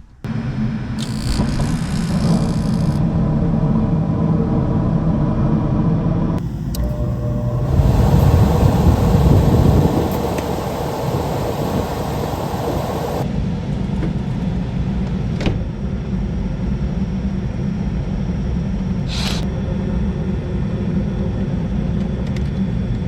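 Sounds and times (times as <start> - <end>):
furnace blower fan running: 3.0 - 23.0.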